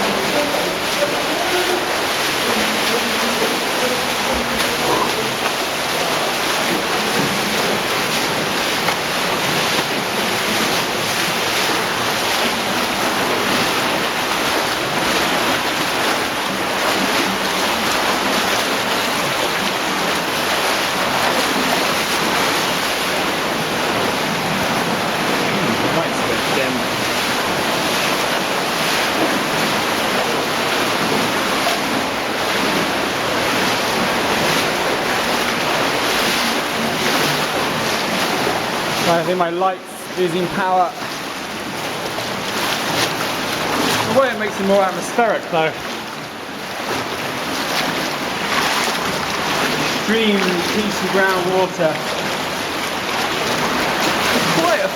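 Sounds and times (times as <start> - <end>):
cave stream roaring: 0.0 - 54.9.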